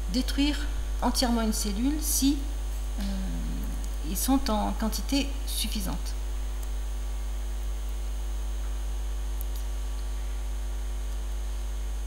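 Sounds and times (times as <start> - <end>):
mains hum: 0.0 - 12.0.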